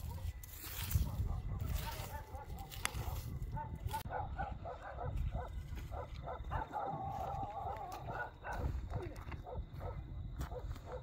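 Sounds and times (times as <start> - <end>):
dog barking: 1.1 - 11.0.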